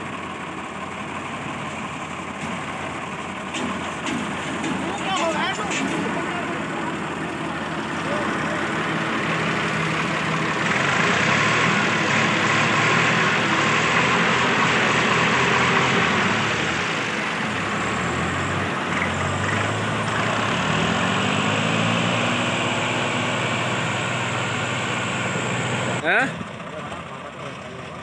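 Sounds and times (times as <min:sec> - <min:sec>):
tractor diesel engines straining: 0:00.0 - 0:28.0.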